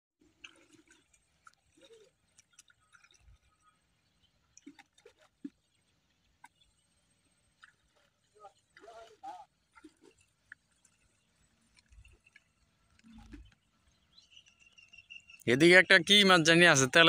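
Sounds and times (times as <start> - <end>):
people wading in shallow water: 0.2 - 17.0
water dripping: 0.3 - 6.6, 7.5 - 15.5.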